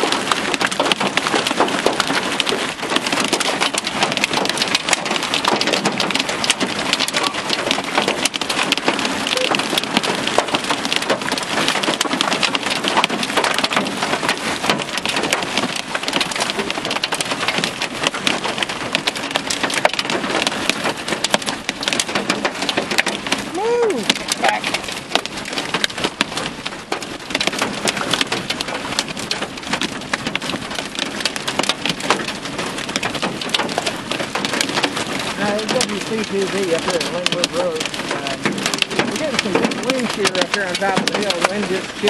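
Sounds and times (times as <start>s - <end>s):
hailstones clicking: 0.0s - 42.0s
heavy rain pelting: 0.0s - 42.0s.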